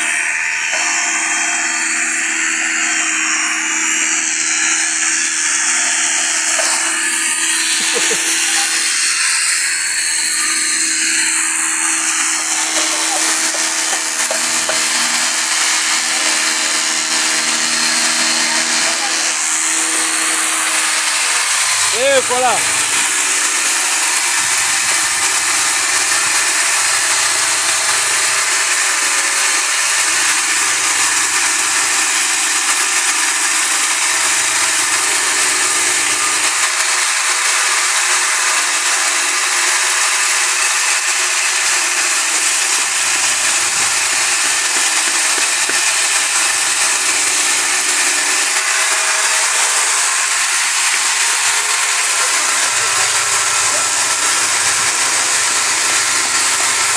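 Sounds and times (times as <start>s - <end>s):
woodworking power tool hissing: 0.0s - 56.9s.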